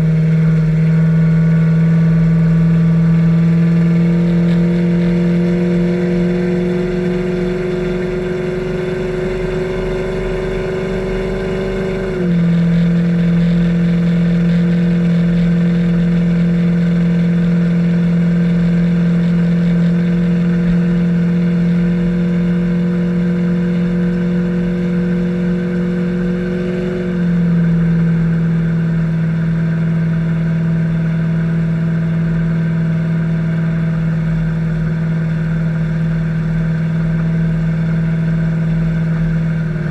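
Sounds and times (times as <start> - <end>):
car exhaust deep drone: 0.0 - 39.9.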